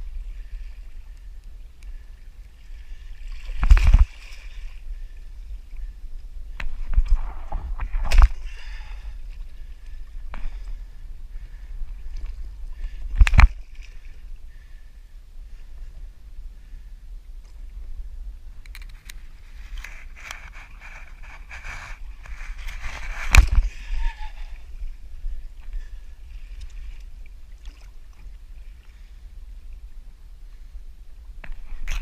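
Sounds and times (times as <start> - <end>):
water splashing against kayak: 0.0 - 32.0.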